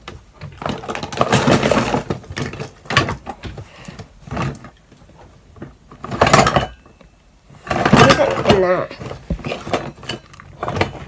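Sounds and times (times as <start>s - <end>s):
household objects knocking and scraping: 0.0s - 11.0s.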